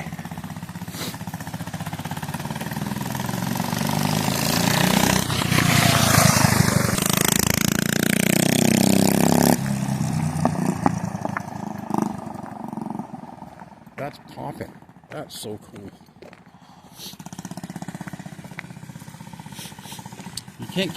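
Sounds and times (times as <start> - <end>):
small engine revving: 0.0 - 13.6, 16.8 - 20.9
exhaust popping: 0.0 - 20.9.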